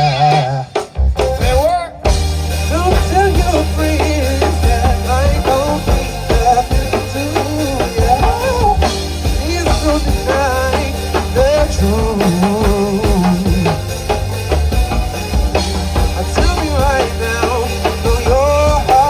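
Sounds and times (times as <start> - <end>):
bass line: 0.0 - 19.0
drum kit beat: 0.0 - 19.0.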